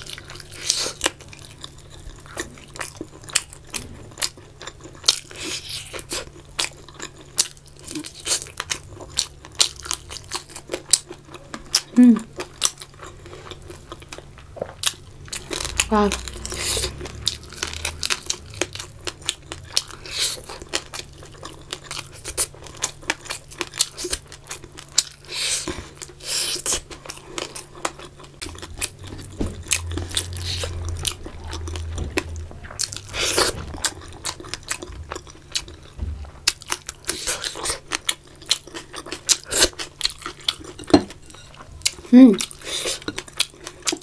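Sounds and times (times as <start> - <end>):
person chewing and crunching food: 0.0 - 44.0.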